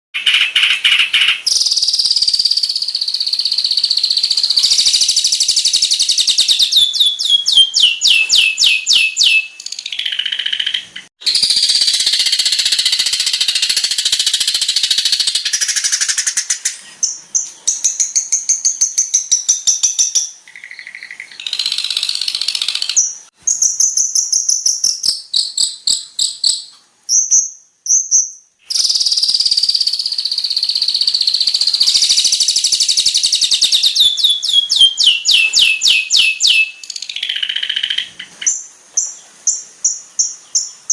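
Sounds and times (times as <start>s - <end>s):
bird song with rapid trills: 0.2s - 40.9s.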